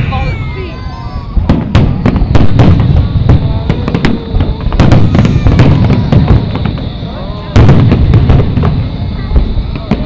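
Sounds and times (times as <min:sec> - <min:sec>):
fireworks bursts and bangs: 0:00.0 - 0:10.0.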